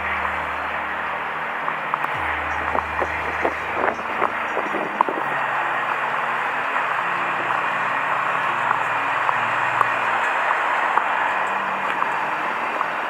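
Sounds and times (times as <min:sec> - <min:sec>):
diesel trucks idling: 0:00.0 - 0:13.0.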